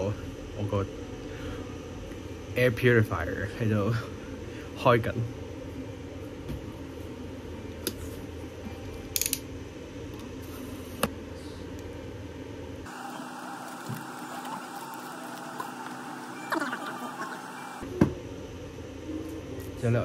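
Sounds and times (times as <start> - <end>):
air purifier fan hum: 0.0 - 20.0.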